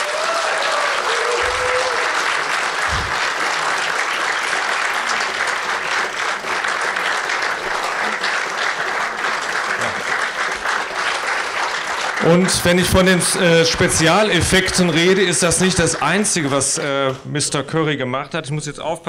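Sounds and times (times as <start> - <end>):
audience applauding: 0.0 - 17.2.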